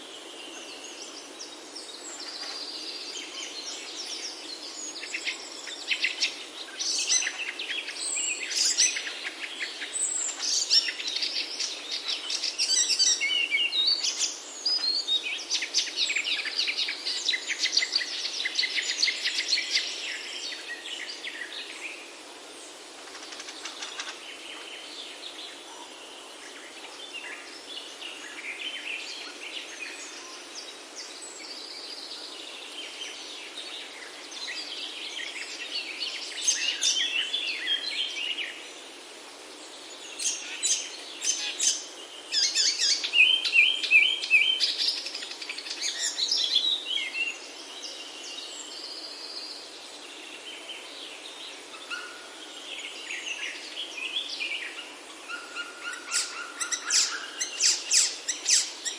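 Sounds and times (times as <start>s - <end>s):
small birds singing and chirping: 0.0s - 58.9s
steady background hiss: 0.0s - 58.9s.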